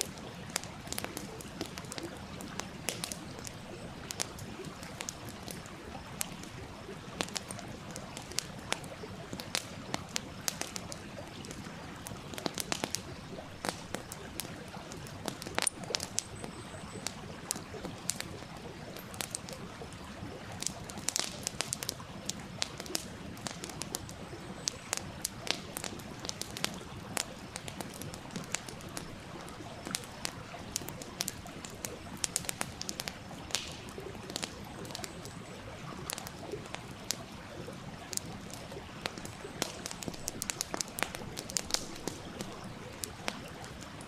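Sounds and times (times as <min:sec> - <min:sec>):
campfire crackling and popping: 0:00.0 - 0:44.0
stream running: 0:00.0 - 0:44.0.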